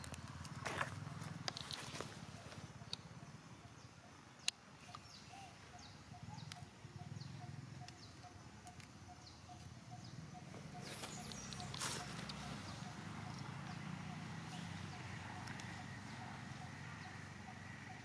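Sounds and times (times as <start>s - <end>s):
birds chirping: 1.6s - 18.0s.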